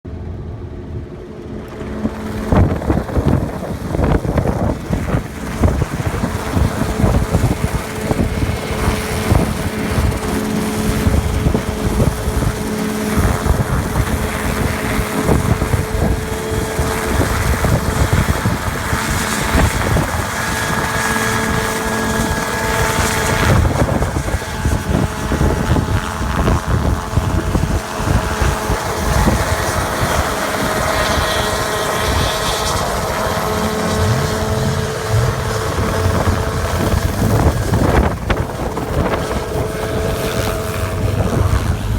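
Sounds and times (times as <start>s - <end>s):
helicopter rotor chop: 0.1s - 41.9s
wind buffeting microphone: 0.4s - 41.9s.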